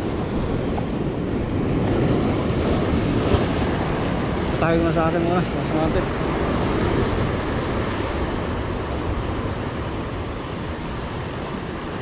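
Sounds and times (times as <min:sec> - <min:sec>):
surf washing over rocks: 0:00.0 - 0:12.0
wind on microphone: 0:00.0 - 0:12.0.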